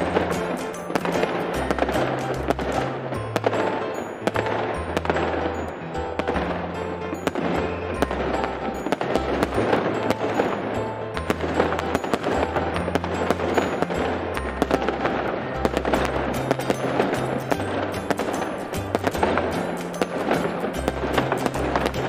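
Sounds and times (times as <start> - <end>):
fireworks bursting and crackling: 0.0 - 22.0
music with deep bass: 0.0 - 22.0.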